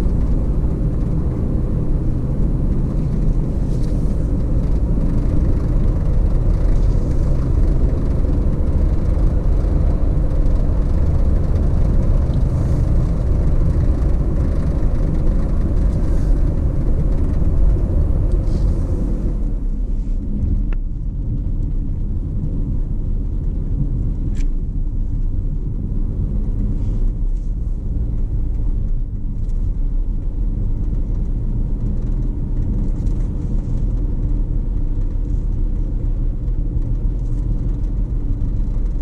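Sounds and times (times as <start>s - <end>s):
road vehicle rumbling while cruising: 0.0s - 39.0s.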